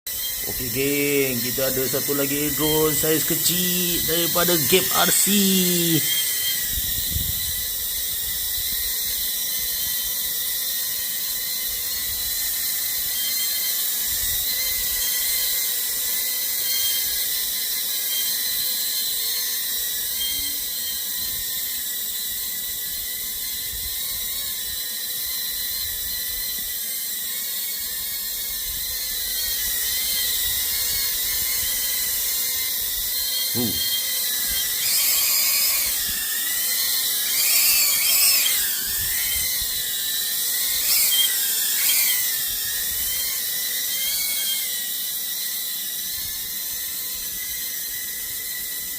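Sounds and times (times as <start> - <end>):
quadcopter motors whining: 0.1 - 48.9.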